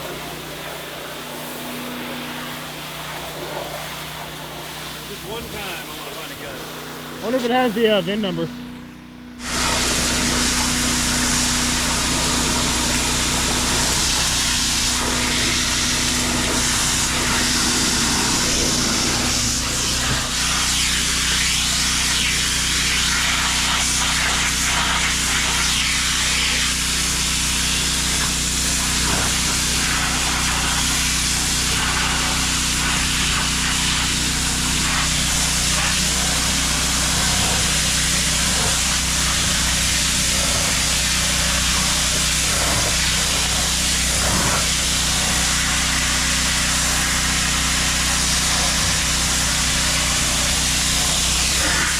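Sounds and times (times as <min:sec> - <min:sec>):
high-pressure water jet hissing: 0:00.0 - 0:08.5, 0:09.4 - 0:51.9
pressure washer engine drone: 0:00.0 - 0:51.9.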